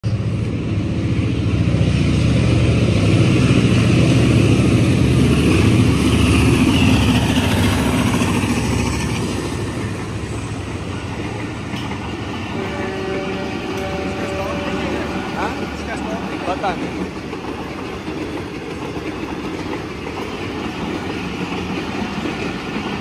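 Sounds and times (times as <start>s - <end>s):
diesel locomotive rumble: 0.0s - 23.0s
passenger coaches rolling past: 0.0s - 23.0s.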